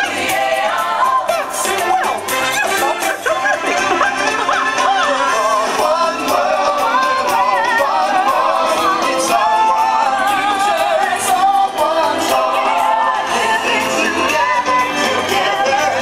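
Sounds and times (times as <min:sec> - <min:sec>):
parade music with singing: 0:00.0 - 0:16.0.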